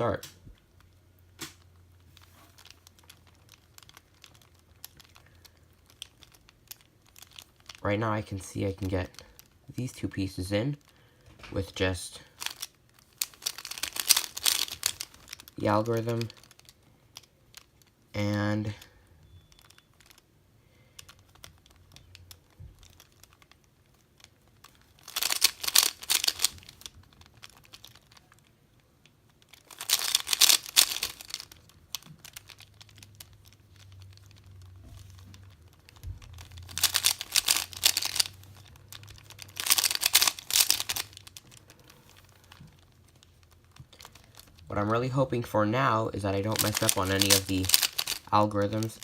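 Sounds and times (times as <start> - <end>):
puzzle cube plastic clicking: 0.0 - 49.0.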